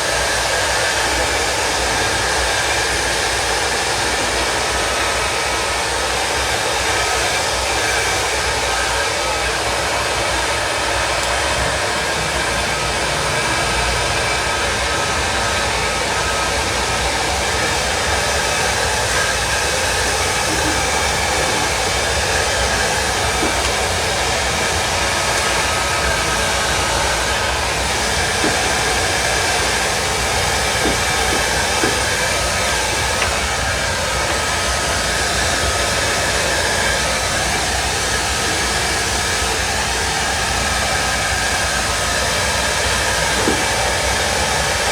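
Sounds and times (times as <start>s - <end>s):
hot-air gun blowing: 0.0s - 44.9s.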